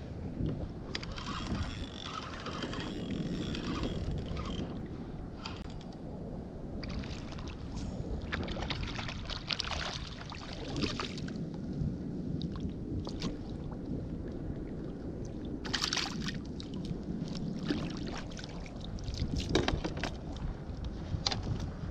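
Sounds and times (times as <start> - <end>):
steady low rumble: 0.0 - 19.4
water sloshing and splashing: 0.9 - 5.7, 6.8 - 11.6, 12.4 - 20.6.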